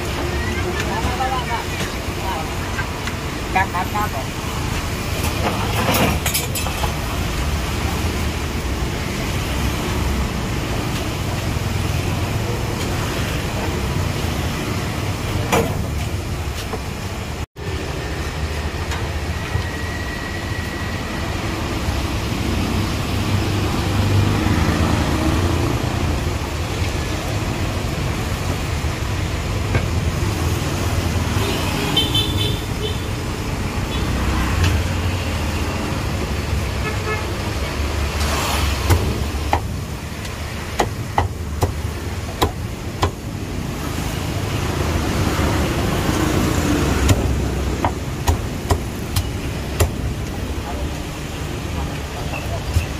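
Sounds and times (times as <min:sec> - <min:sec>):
road traffic noise: 0:00.0 - 0:52.9.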